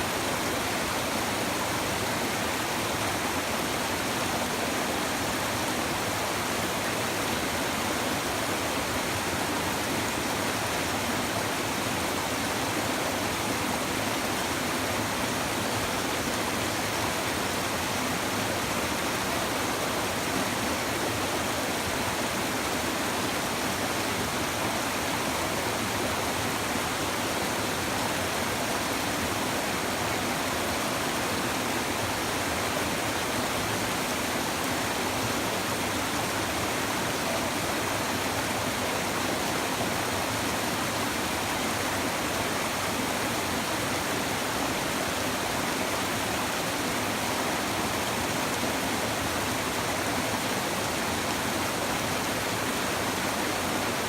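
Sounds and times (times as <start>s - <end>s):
river babbling over stones: 0.0s - 54.0s.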